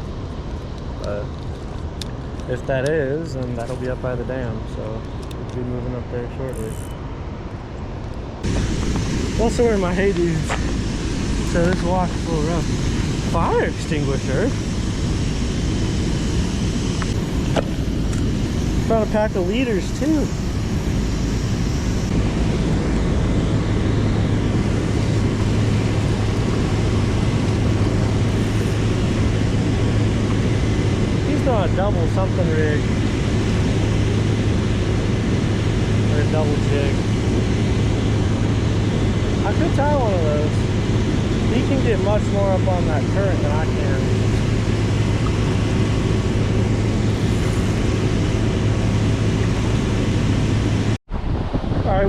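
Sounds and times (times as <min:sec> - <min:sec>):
constant low hum: 0:00.0 - 0:52.0
river current roaring: 0:08.4 - 0:51.0.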